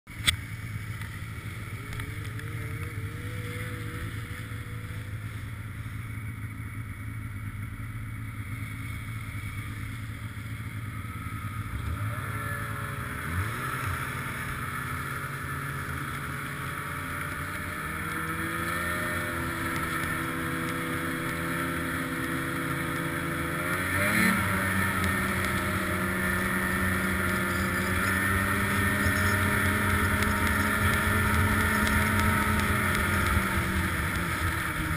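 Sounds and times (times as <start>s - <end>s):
snowmobile engine revving: 1.2s - 5.9s, 10.9s - 34.9s.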